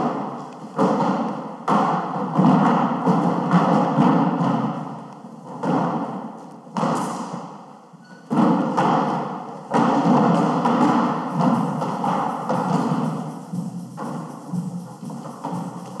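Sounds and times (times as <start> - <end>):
performers thudding and knocking: 0.0 - 7.5, 8.3 - 16.0.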